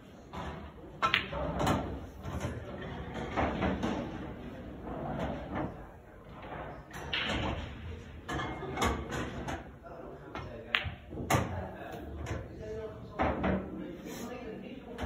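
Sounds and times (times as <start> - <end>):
pool balls knocking and rolling: 0.2 - 13.8.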